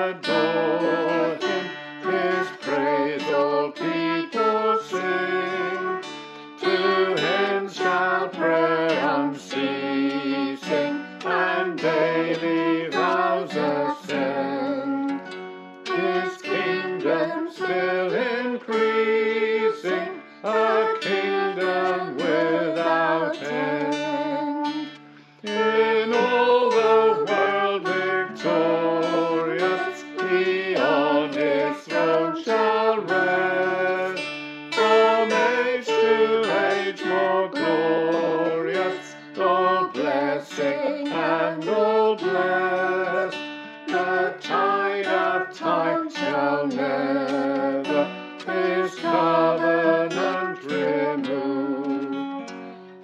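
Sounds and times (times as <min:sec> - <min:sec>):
several voices singing a hymn: 0:00.0 - 0:15.2, 0:15.8 - 0:53.0
strummed acoustic guitar: 0:00.0 - 0:53.0.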